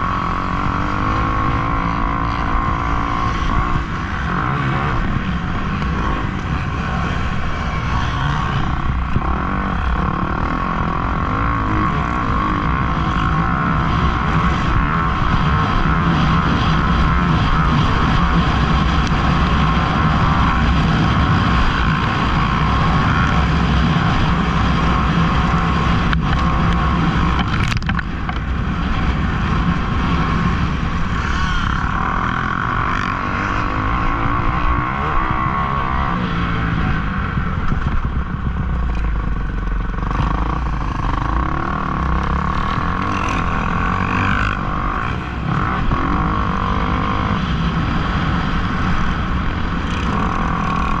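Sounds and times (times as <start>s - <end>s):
dirt bike engines under throttle: 0.0s - 51.0s.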